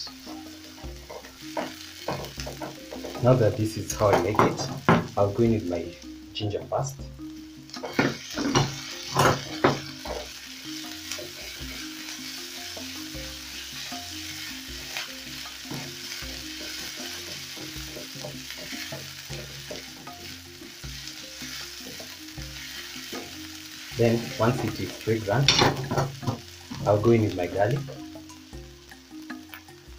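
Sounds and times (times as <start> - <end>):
onions sizzling in hot oil: 0.0 - 29.9
spatula tapping pan: 0.1 - 5.2, 7.6 - 29.9.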